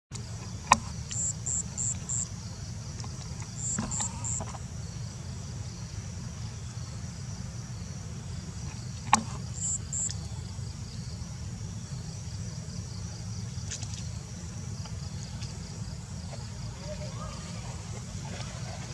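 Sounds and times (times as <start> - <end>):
insects chirping: 0.1 - 18.9.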